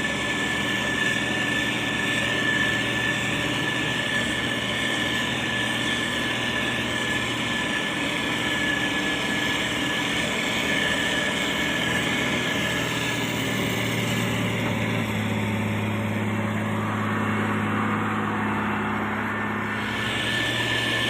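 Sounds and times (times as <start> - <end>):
diesel engine running: 0.0 - 21.0
thin high whine: 0.0 - 21.0.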